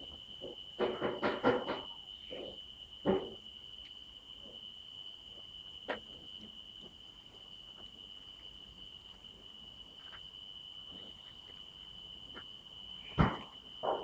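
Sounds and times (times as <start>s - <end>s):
insect trilling: 0.0s - 14.0s.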